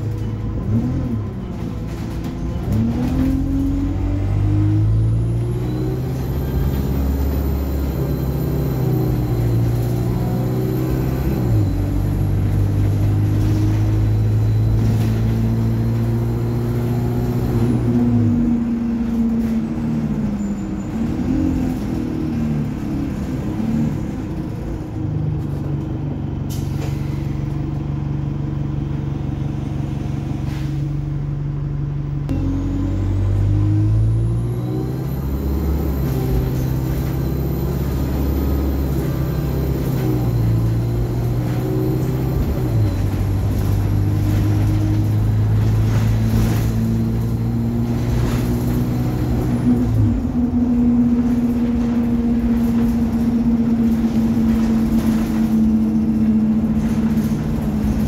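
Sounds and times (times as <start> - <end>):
bus diesel engine and gearbox: 0.0 - 58.0.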